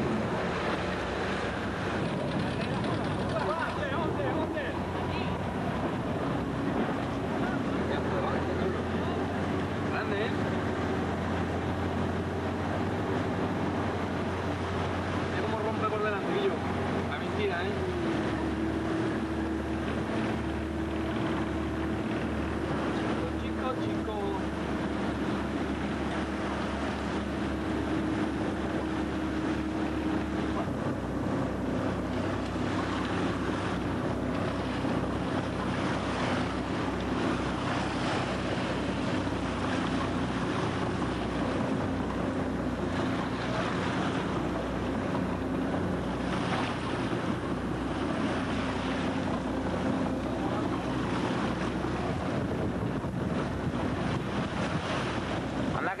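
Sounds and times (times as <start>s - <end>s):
boat engine humming: 0.0s - 56.0s
choppy sea water: 0.0s - 56.0s
wind buffeting microphone: 0.0s - 56.0s.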